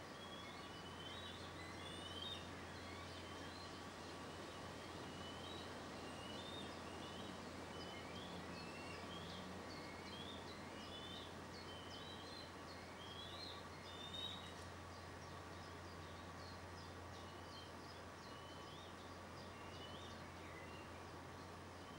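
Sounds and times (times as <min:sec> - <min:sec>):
steady hiss: 0:00.0 - 0:21.9
faint high bird calls: 0:00.1 - 0:21.9.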